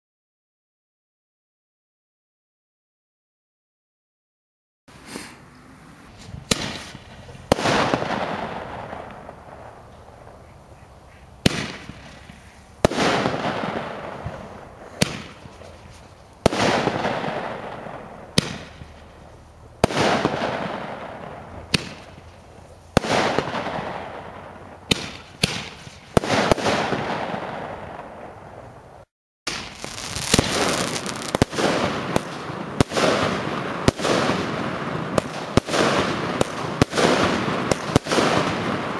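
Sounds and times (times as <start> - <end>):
fireworks bangs: 6.1 - 28.8, 29.5 - 38.9.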